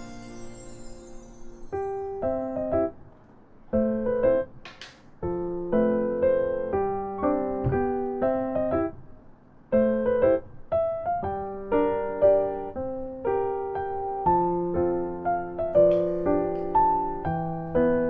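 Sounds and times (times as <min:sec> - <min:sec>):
electric piano music: 0:00.0 - 0:04.6, 0:05.2 - 0:18.0.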